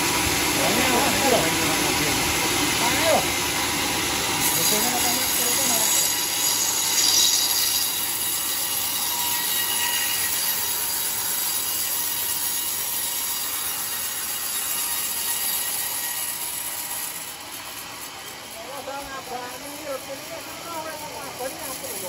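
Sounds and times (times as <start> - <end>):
band saw cutting log: 0.0 - 22.0.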